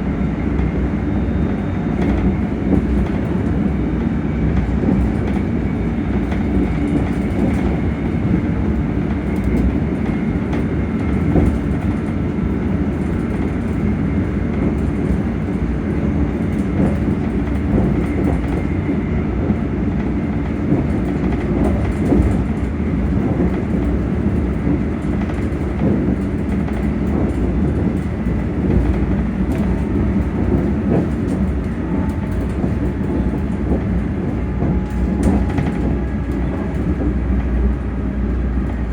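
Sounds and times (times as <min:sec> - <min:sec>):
wheels rumbling on track: 0:00.0 - 0:38.9.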